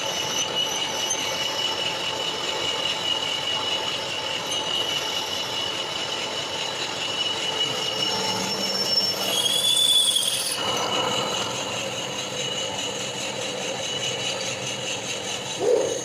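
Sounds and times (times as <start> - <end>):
high-pitched squeal: 0.0 - 16.0
machine tool cutting metal: 0.0 - 16.0.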